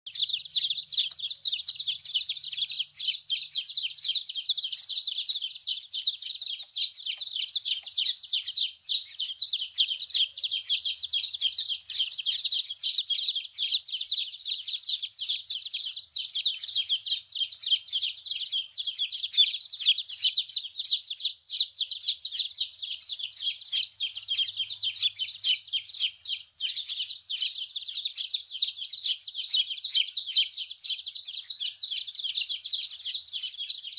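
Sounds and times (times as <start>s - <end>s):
baby chicks peeping: 0.0s - 33.9s.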